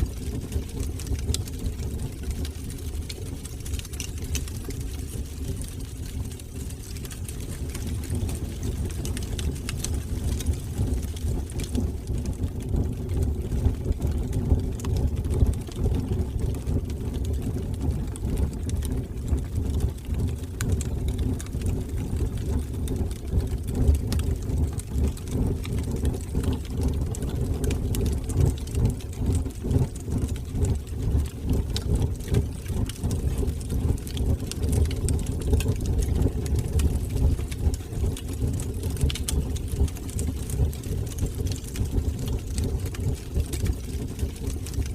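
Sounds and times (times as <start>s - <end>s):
fire crackles and pops: 0.0s - 44.9s
fire flames rumbling: 0.0s - 44.9s.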